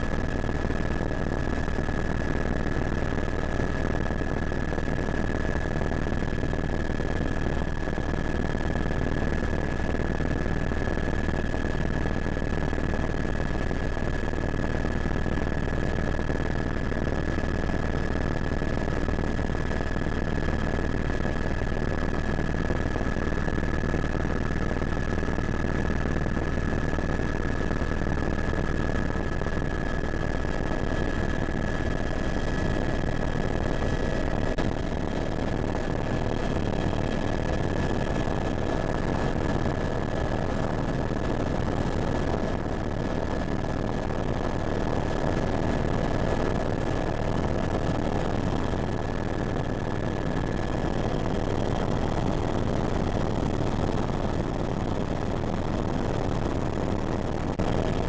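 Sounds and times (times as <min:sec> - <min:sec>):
helicopter engine and rotor: 0:00.0 - 0:55.4, 0:56.2 - 0:58.0.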